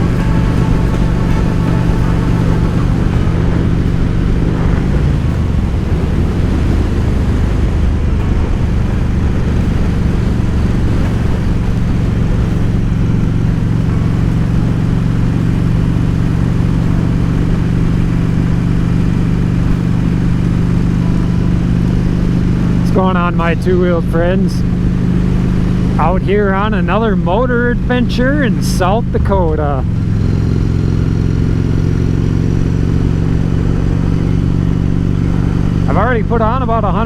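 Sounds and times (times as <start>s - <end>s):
wind rush: 0.0s - 36.0s
motorcycle engine cruising: 0.0s - 37.0s.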